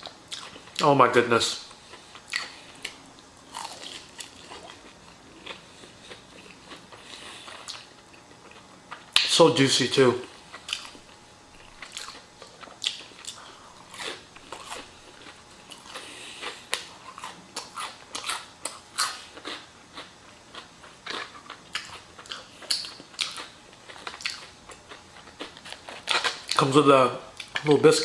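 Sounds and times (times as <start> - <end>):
crunching fried chicken: 0.1 - 28.0.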